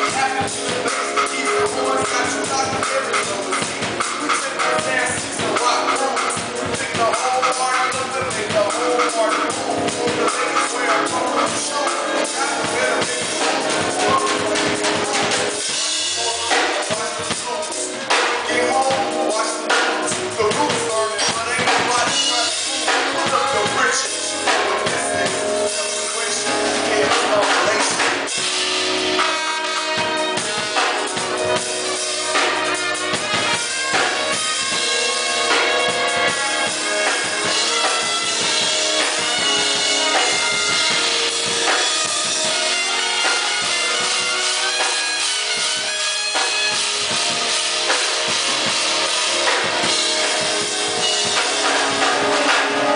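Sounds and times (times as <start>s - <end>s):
drum kit beat: 0.0s - 52.9s
sustained pitched instruments: 0.0s - 52.9s.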